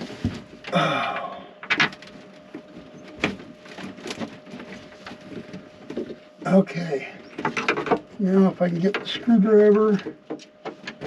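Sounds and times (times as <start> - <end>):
scraping rustle: 0.0 - 0.7, 1.9 - 11.0.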